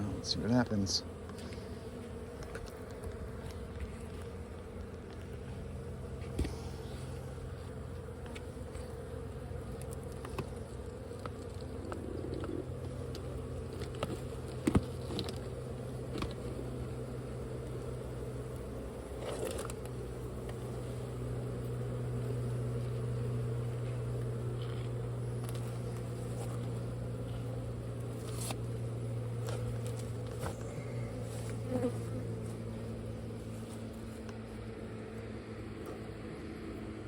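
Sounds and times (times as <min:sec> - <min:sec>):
honeybees buzzing: 0:00.0 - 0:37.0.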